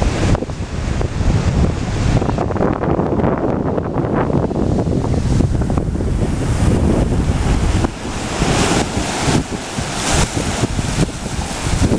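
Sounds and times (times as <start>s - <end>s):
ocean surf breaking: 0.0s - 11.9s
wind rumbling on microphone: 0.0s - 11.9s.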